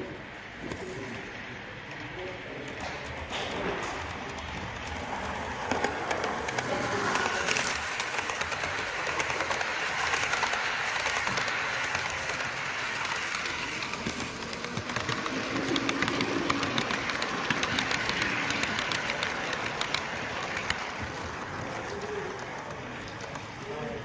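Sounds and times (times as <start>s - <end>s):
model train wheels hissing on track: 0.0s - 24.0s
wheels clicking over rail joints: 1.9s - 24.0s.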